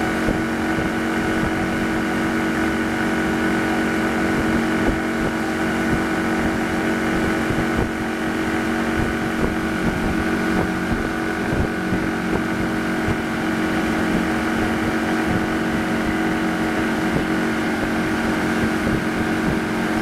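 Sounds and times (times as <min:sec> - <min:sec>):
boat engine humming: 0:00.0 - 0:20.0
rush of boat wake: 0:00.0 - 0:20.0.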